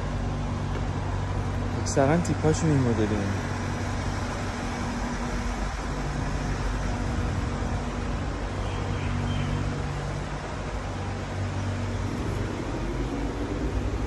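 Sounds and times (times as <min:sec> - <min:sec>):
low engine hum: 0:00.0 - 0:14.0
road traffic rumble: 0:00.0 - 0:14.0.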